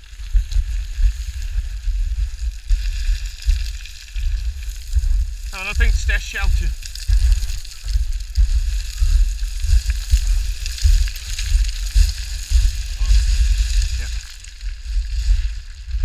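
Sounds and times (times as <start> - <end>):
steady hiss: 0.0 - 16.0
wind buffeting microphone: 0.0 - 16.0.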